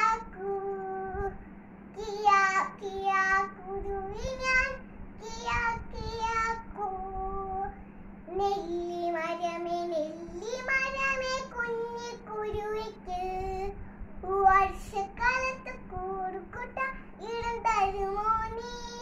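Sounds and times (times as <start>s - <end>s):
girl singing unaccompanied: 0.0s - 19.0s.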